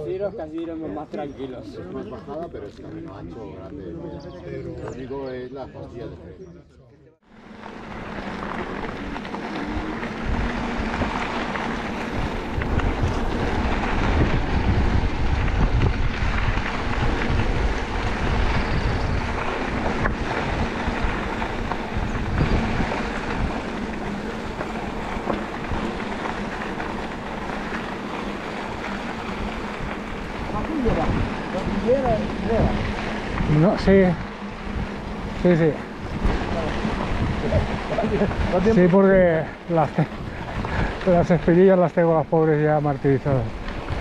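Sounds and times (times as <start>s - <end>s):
wind buffeting microphone: 7.5s - 44.0s.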